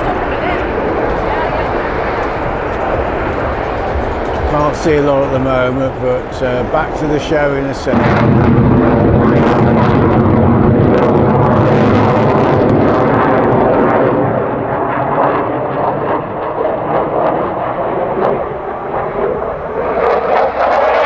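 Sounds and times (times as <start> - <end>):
jet engine roar: 0.0 - 21.0.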